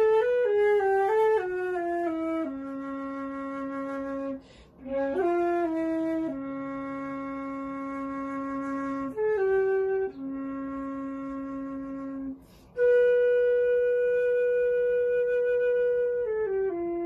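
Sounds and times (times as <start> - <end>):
flute playing slow melody: 0.0 - 17.0.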